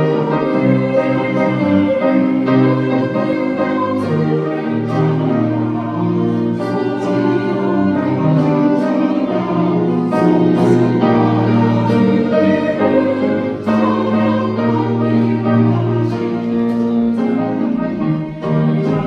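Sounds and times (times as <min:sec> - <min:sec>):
choir singing a hymn: 0:00.0 - 0:19.0
instrumental accompaniment: 0:00.0 - 0:19.0.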